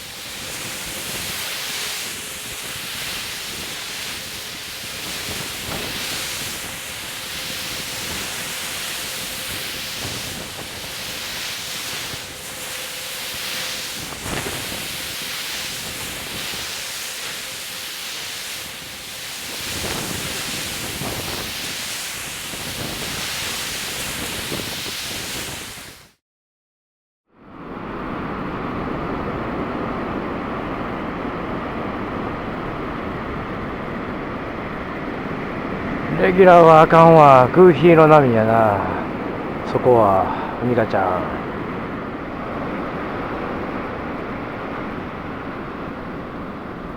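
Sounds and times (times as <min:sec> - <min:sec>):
ocean surf breaking: 0:00.0 - 0:26.1, 0:27.6 - 0:46.9.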